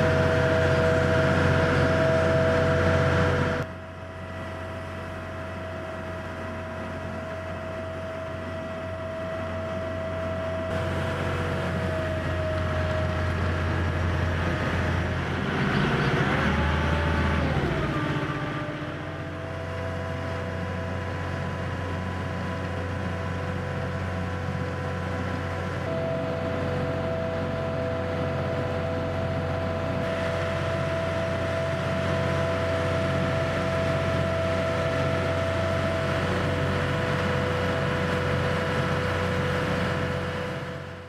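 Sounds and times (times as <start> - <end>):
boat engine droning: 0.0 - 41.0
steady engine whine: 0.0 - 41.0.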